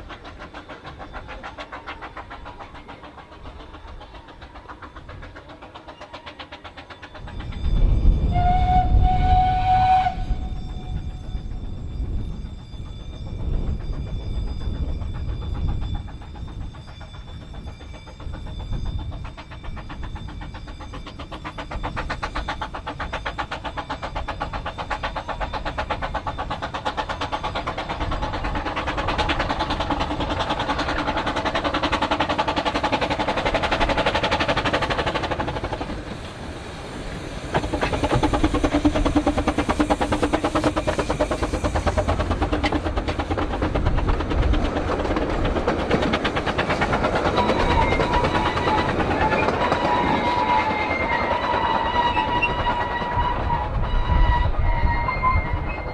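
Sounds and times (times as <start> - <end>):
steam locomotive running: 0.0 - 55.9.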